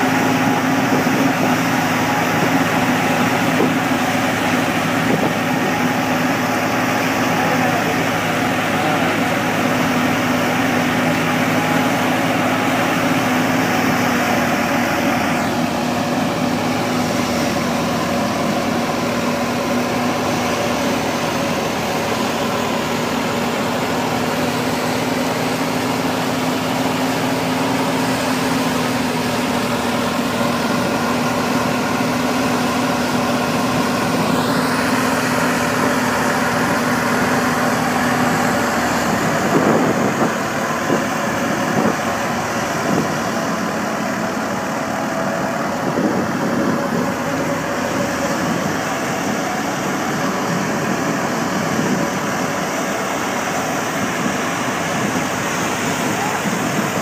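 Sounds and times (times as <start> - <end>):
thresher mechanical drone: 0.0 - 57.0.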